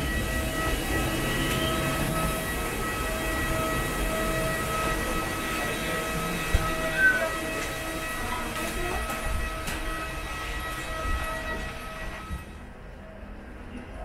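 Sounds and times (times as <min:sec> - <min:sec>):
high steady whining tones: 0:00.0 - 0:14.0
low machinery drone: 0:00.0 - 0:14.0.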